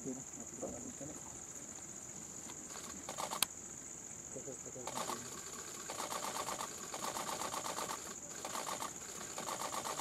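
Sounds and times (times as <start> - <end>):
insect pulsed trills: 0.0 - 10.0
insects buzzing: 0.0 - 10.0.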